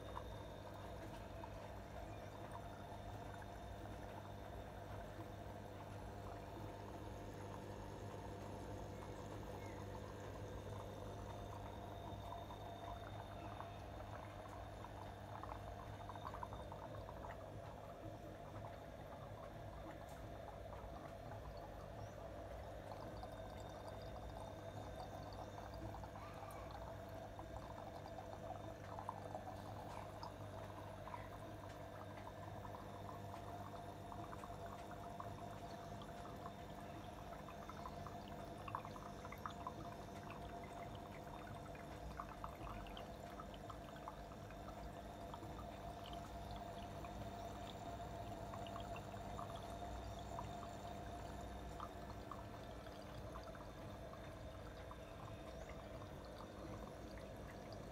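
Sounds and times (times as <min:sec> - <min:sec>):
crackling bubbles: 0:00.0 - 0:57.9
low hum: 0:00.0 - 0:57.9
water splashing and gurgling: 0:00.0 - 0:57.9.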